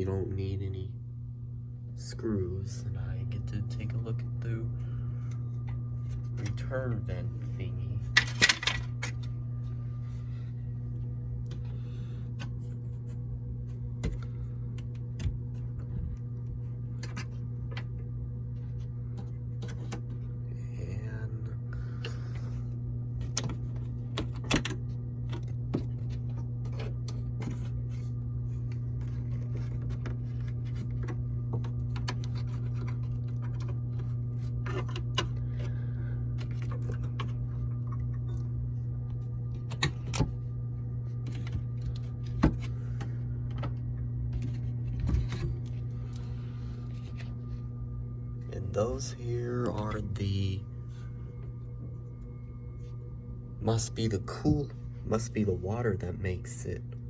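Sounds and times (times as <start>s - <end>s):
hvac unit humming: 0.0s - 57.0s.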